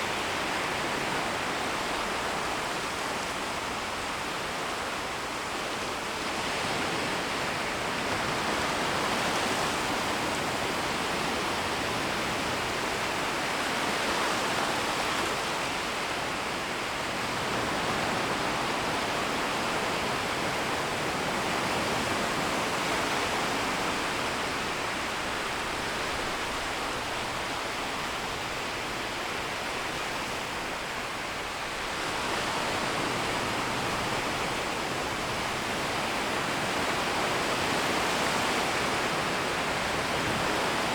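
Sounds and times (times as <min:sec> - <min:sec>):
gentle waves washing on shore: 0:00.0 - 0:40.9.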